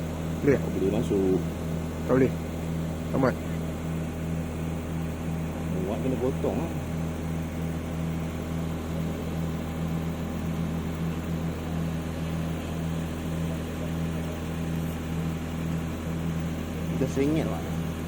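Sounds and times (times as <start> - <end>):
low machine drone: 0.0 - 18.0.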